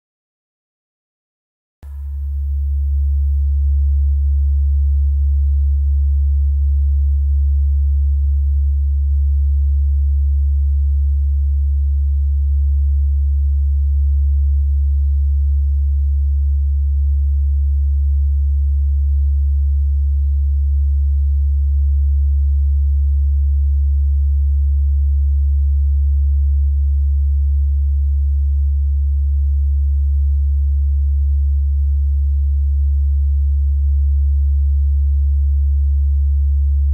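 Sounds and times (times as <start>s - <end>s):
low electrical hum: 1.8s - 36.9s.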